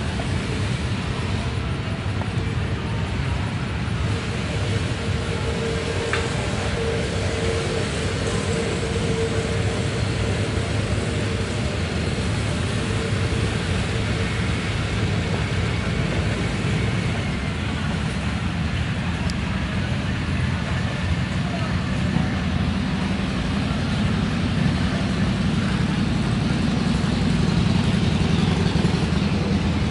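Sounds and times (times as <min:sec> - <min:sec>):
low outdoor rumble: 0:00.0 - 0:29.9.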